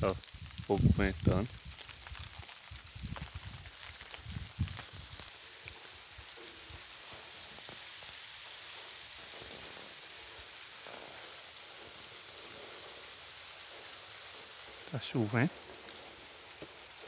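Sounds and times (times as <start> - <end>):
rain falling on ground: 0.0 - 17.0.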